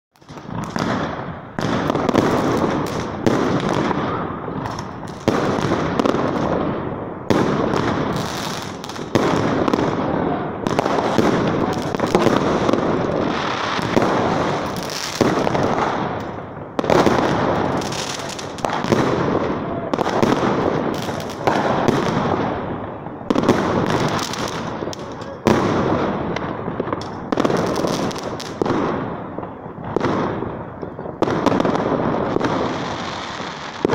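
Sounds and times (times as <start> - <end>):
fireworks bangs with echo: 0.2 - 33.9.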